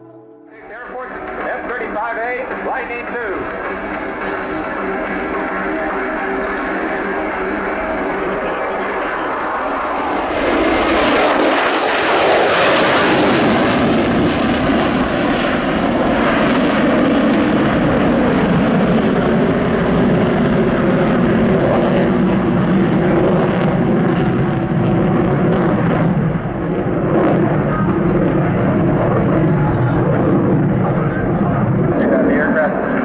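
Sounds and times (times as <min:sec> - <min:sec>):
jet fighter passing: 0:00.5 - 0:33.0.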